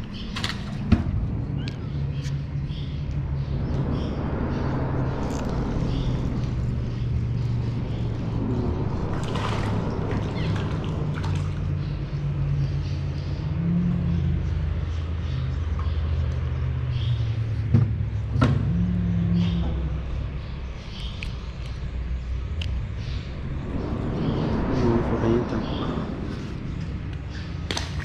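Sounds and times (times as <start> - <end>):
road traffic rumbling over bridge: 0.0 - 28.0.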